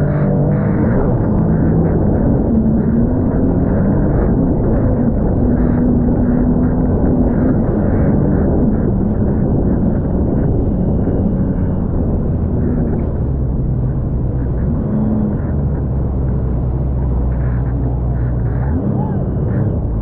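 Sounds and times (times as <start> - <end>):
jet ski engine running: 0.0 - 20.0.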